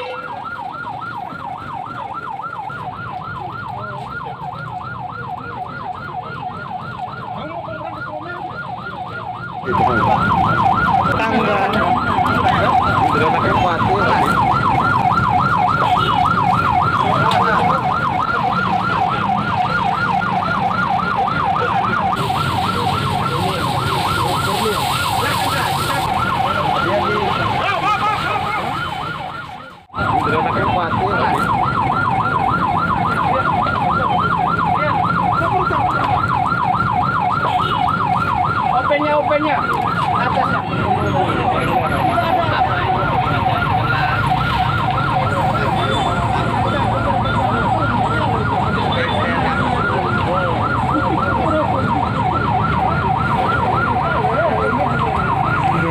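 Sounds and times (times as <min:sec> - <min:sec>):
electronic siren yelping: 0:00.0 - 0:55.9
traffic and street noise: 0:00.0 - 0:55.9.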